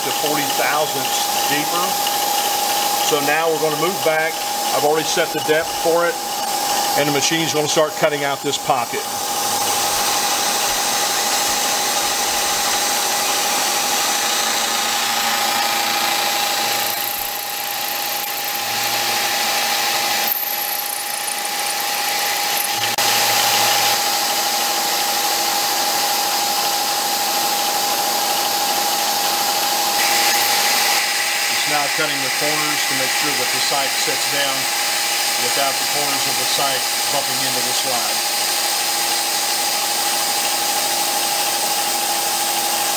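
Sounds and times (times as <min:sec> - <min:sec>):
milling machine cutting metal: 0:00.0 - 0:42.9.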